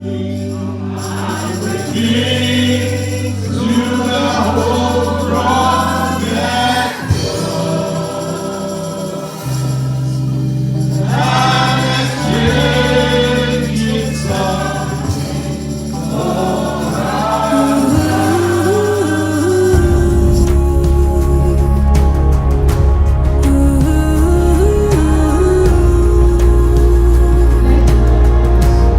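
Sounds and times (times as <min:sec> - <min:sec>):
gospel choir singing: 0:00.0 - 0:28.9
sustained bass line: 0:00.0 - 0:28.9.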